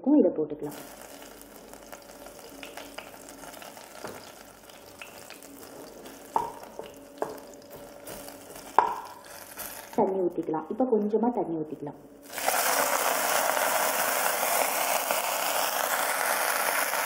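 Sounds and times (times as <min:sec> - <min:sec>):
garlic sizzling in hot oil: 0:00.7 - 0:10.0, 0:12.2 - 0:17.0.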